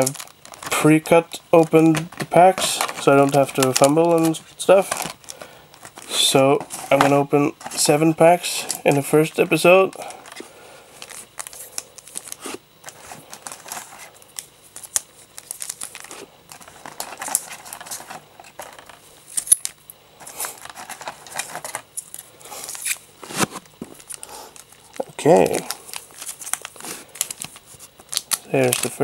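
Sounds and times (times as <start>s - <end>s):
foil wrapper crinkling: 0.0s - 29.0s.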